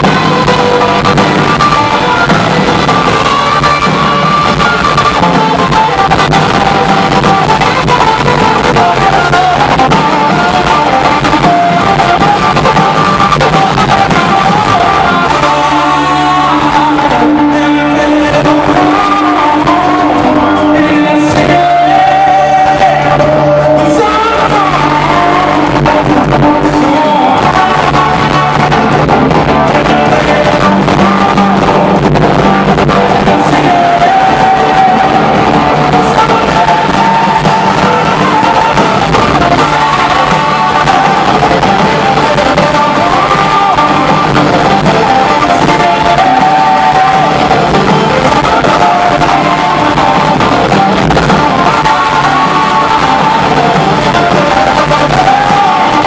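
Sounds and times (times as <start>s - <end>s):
drums: 0.0s - 56.0s
electric guitars: 0.0s - 56.0s
live rock band: 0.0s - 56.0s
person singing: 0.0s - 56.0s.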